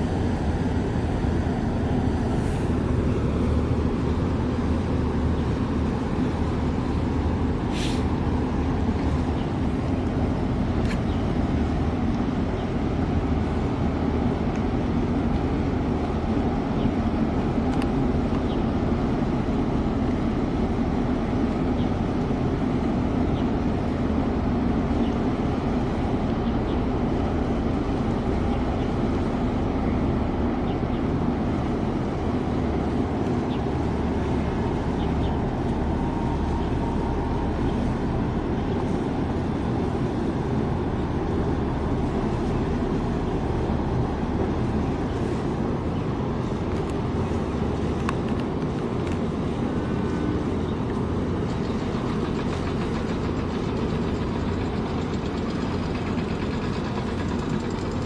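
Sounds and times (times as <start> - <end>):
ship engine rumble: 0.0 - 58.0.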